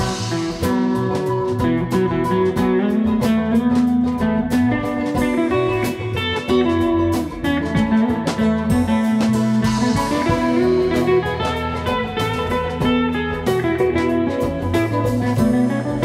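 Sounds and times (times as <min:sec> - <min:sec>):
blues guitar music: 0:00.0 - 0:16.0.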